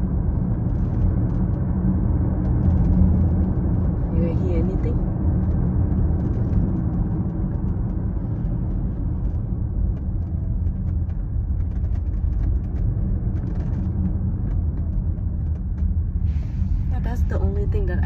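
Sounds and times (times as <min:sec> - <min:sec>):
road and tyre rumble: 0:00.0 - 0:18.0
interior creaks and ticks: 0:00.3 - 0:16.2.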